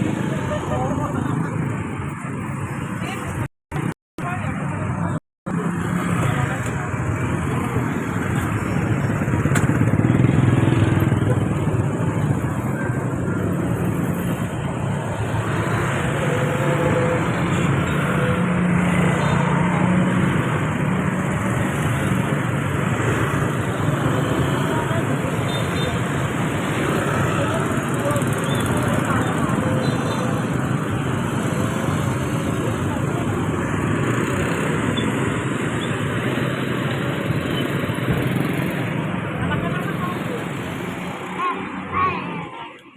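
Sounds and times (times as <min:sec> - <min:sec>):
passing traffic: 0:00.0 - 0:42.9.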